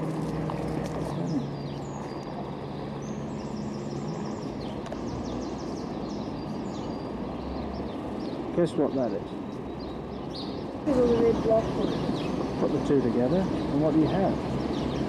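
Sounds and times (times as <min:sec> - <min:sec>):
small birds chirping: 0:00.0 - 0:15.0
traffic hum: 0:00.0 - 0:15.0
wind: 0:00.0 - 0:15.0.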